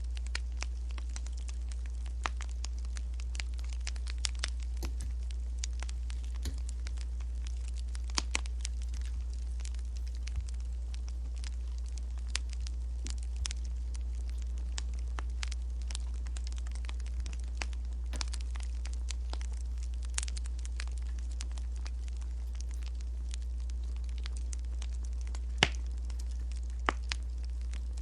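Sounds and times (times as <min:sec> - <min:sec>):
low rumble: 0:00.0 - 0:28.0
sharp fire snaps: 0:00.0 - 0:28.0
wood fire crackling: 0:00.0 - 0:28.0.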